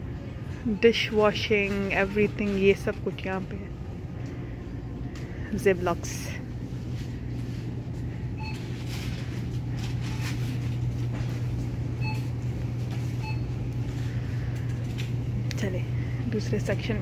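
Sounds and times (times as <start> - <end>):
low store hum: 0.0 - 17.0.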